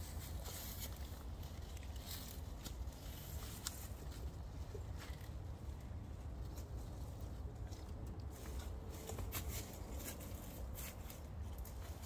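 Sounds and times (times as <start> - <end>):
dry leaves rustling and crackling: 0.0 - 12.0
low steady rumble: 0.0 - 12.0.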